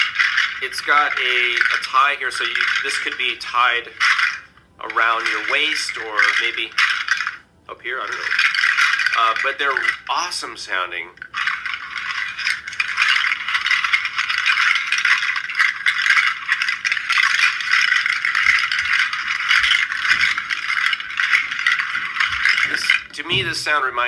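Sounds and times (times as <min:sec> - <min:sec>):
seed pod rattle shaken: 0:00.0 - 0:07.4, 0:08.0 - 0:10.4, 0:11.2 - 0:24.0.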